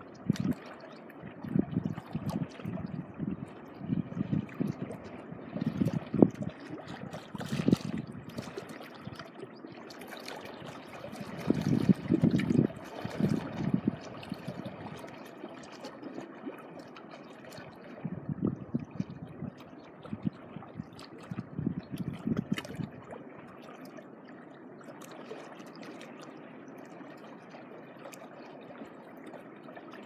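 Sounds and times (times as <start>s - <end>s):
small waves lapping at shoreline: 0.0s - 30.0s.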